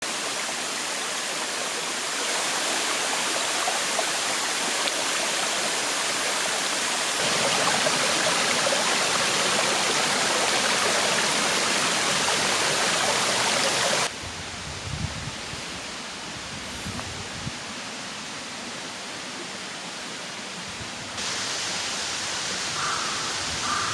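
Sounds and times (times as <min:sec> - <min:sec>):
rushing water: 0:00.0 - 0:23.9.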